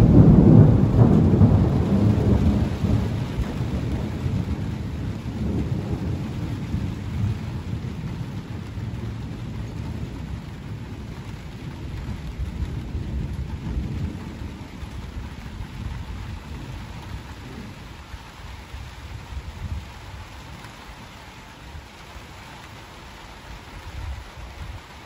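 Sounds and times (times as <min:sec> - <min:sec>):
thunder rumbling low: 0:00.0 - 0:21.1
steady rain: 0:00.0 - 0:25.0.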